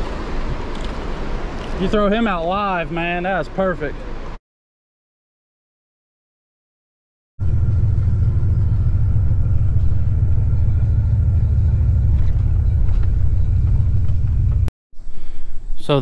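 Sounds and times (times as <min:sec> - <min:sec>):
engine and road rumble in cab: 0:00.0 - 0:04.4, 0:07.4 - 0:16.0.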